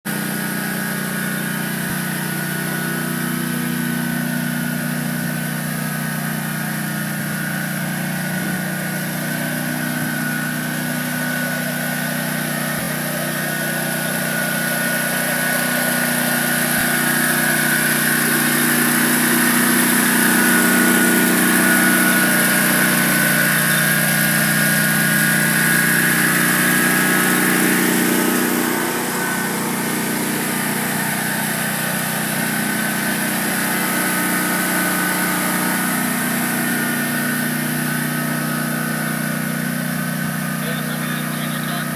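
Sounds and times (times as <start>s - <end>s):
mower engine running: 0.0s - 41.9s.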